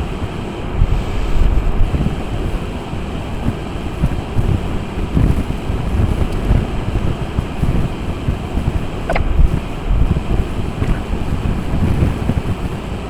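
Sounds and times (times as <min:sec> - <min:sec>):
wind buffeting microphone: 0:00.4 - 0:13.0.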